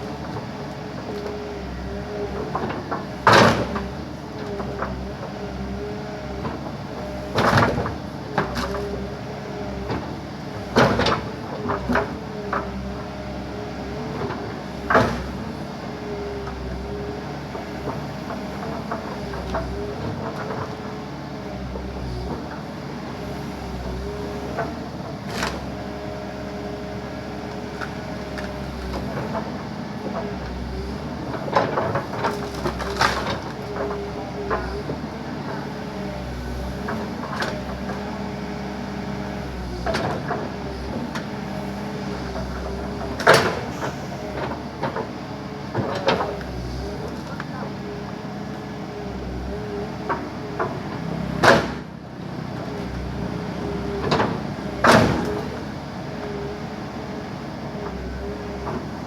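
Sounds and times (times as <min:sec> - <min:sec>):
backhoe diesel engine working: 0:00.0 - 0:59.0.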